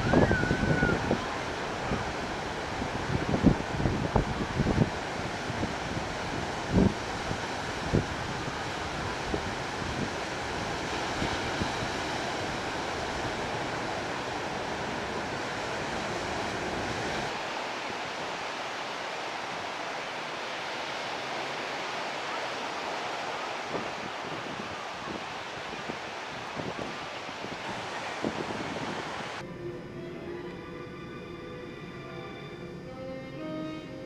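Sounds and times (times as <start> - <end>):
surf breaking on a beach: 0.0 - 29.4
wind rumbling on microphone: 0.0 - 31.9.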